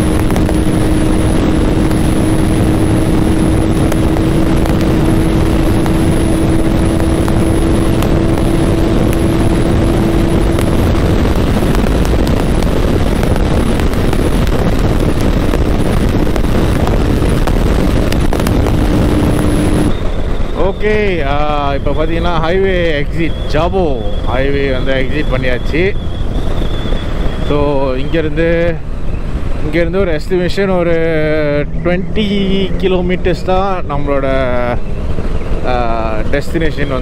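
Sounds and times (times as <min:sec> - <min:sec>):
motorcycle engine drone: 0:00.0 - 0:37.0
steady hum: 0:00.0 - 0:37.0
wind rushing over microphone: 0:00.0 - 0:37.0.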